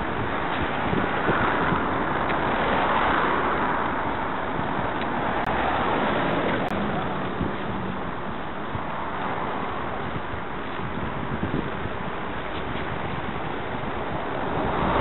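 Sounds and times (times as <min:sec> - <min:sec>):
cars passing close: 0:00.0 - 0:15.0
wind rushing over microphone: 0:00.0 - 0:15.0.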